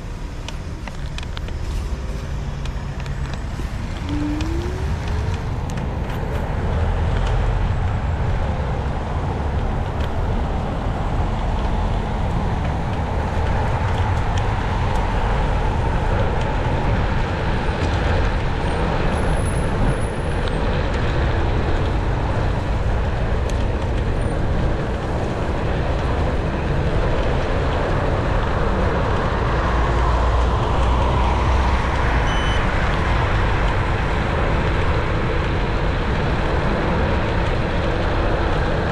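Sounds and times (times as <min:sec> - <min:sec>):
road and traffic noise: 0:00.0 - 0:38.9
vehicles passing: 0:00.0 - 0:38.9.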